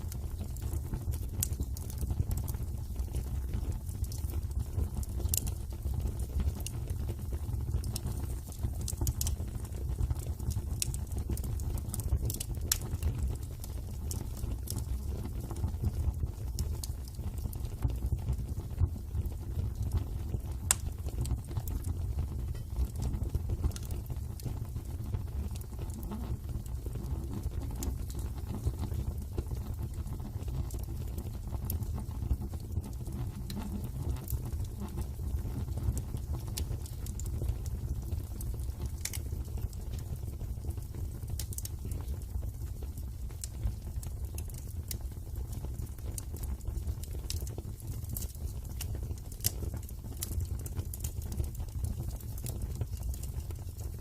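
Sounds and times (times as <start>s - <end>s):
fire pops and snaps: 0.0s - 54.0s
low fire rumble: 0.0s - 54.0s
wood fire crackling: 0.0s - 54.0s.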